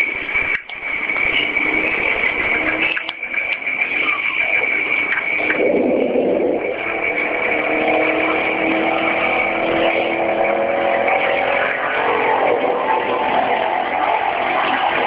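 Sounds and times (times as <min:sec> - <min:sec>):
faint high whine: 0:00.0 - 0:15.0
loud droning groan: 0:00.8 - 0:03.9, 0:04.6 - 0:15.0.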